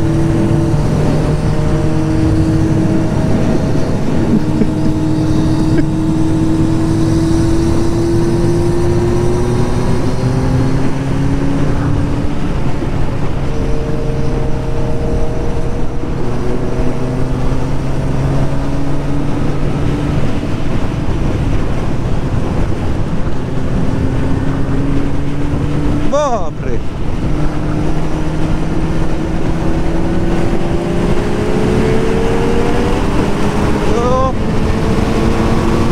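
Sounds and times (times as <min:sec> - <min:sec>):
motorcycle engine running hard: 0:00.0 - 0:35.9
wind rush: 0:00.0 - 0:35.9.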